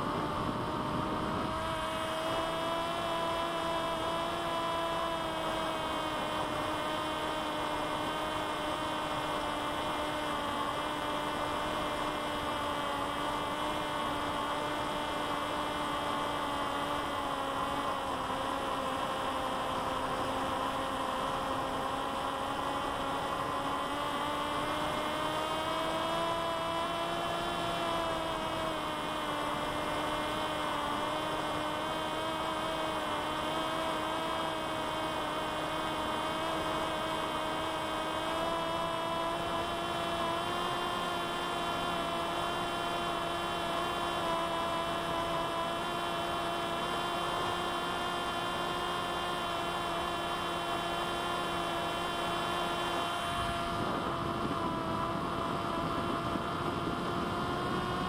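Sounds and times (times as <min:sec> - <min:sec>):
electric motor propeller whine: 0:00.0 - 0:58.0.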